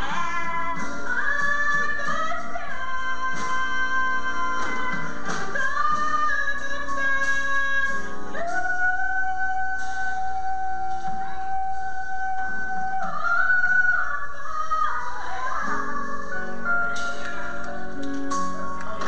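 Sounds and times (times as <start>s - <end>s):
woman singing gospel: 0.0s - 18.5s.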